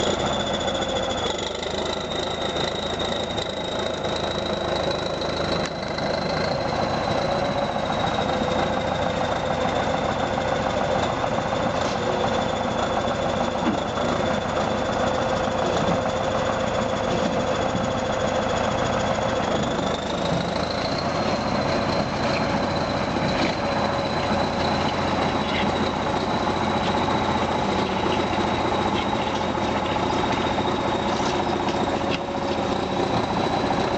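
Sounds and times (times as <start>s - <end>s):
high whine: 0.0s - 33.9s
tractor engine under load: 0.0s - 33.9s.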